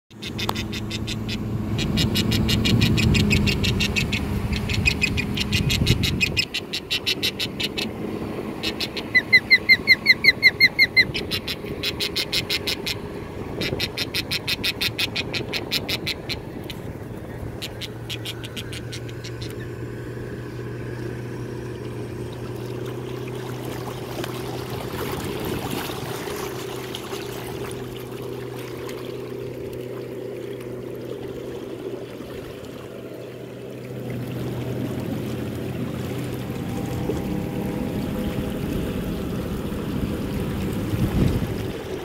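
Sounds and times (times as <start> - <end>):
boat engine drone: 0.1 - 42.0
water splashing and trickling: 0.1 - 42.0.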